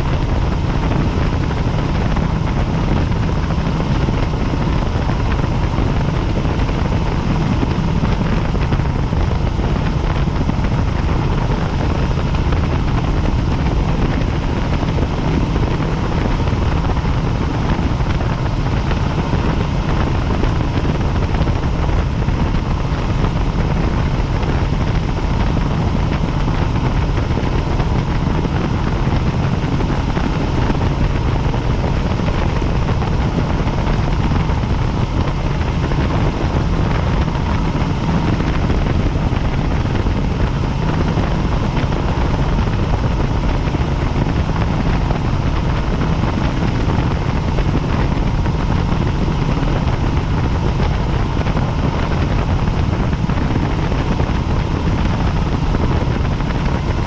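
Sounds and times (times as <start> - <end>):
faint steady whine: 0.0 - 57.0
helicopter rotor drone: 0.0 - 57.0.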